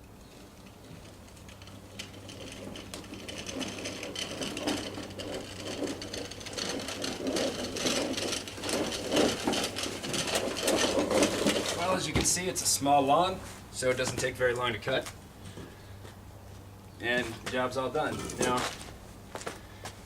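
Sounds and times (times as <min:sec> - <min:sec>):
push lawn mower rattling: 0:00.2 - 0:15.0, 0:17.0 - 0:19.6.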